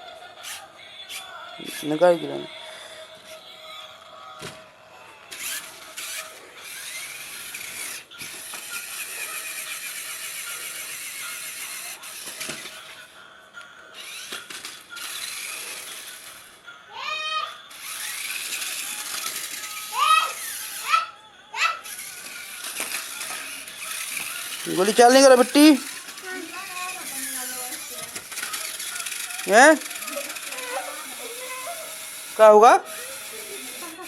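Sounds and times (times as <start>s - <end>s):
toy electric motor whirring: 0.0s - 34.0s.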